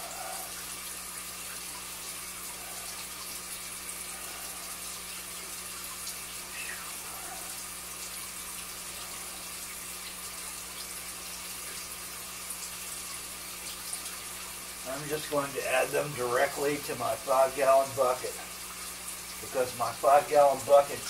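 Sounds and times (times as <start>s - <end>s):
aquarium water trickling: 0.0s - 21.0s
constant low hum: 0.0s - 21.0s.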